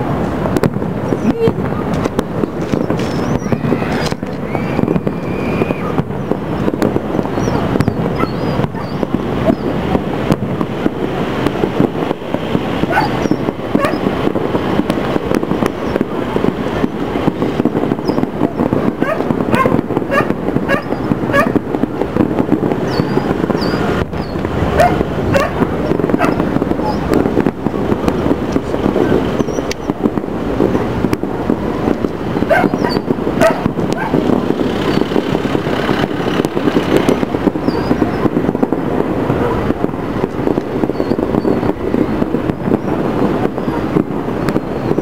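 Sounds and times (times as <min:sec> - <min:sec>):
distant fireworks bangs and crackle: 0:00.0 - 0:45.0.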